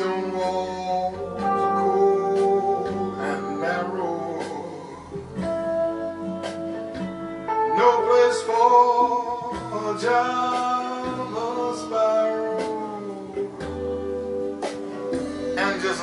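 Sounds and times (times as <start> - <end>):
guitar music over loudspeakers: 0.0 - 16.0.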